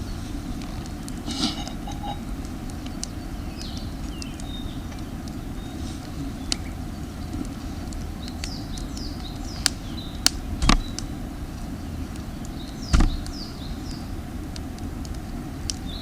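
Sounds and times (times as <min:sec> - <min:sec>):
campfire pops and snaps: 0:00.0 - 0:16.0
small birds chirping: 0:00.0 - 0:16.0
steady low rumble: 0:00.0 - 0:16.0.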